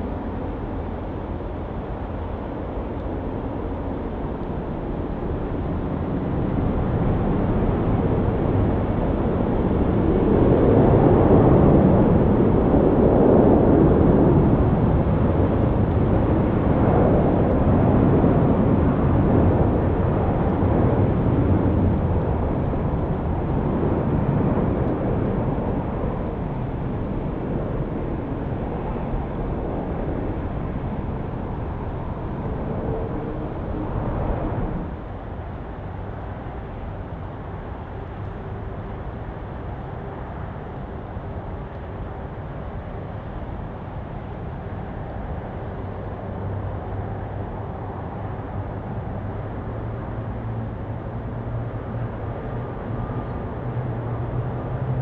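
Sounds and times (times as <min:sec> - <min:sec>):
airliner engines rumbling: 0:00.0 - 0:55.0.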